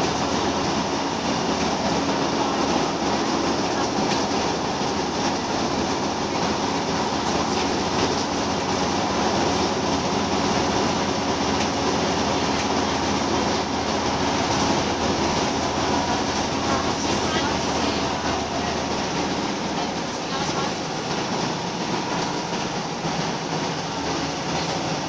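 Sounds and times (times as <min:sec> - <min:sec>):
bus engine running: 0:00.0 - 0:25.0
road noise: 0:00.0 - 0:25.0.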